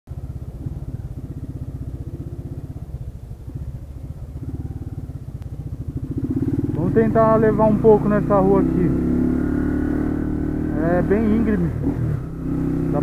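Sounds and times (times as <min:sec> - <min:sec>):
motorcycle engine running: 0:00.1 - 0:13.0.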